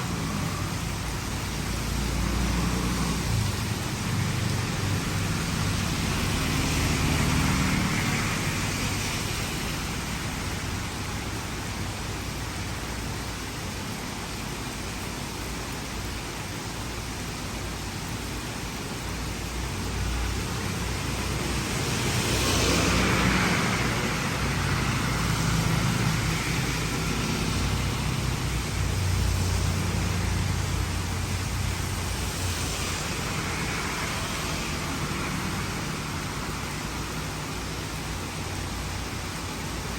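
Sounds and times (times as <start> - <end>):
heavy rain hiss: 0.0 - 39.9
vehicles passing on flooded street: 0.0 - 39.9.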